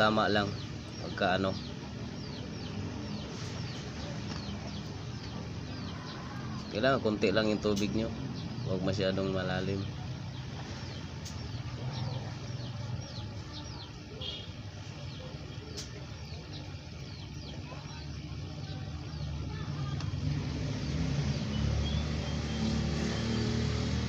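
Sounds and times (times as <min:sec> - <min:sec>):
birds chirping: 0:00.0 - 0:24.0
low engine rumble: 0:00.0 - 0:24.0.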